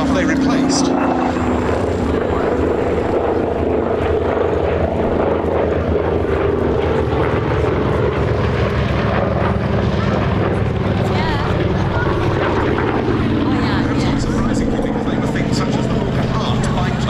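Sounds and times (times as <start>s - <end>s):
radial engine and propeller drone: 0.0s - 17.0s.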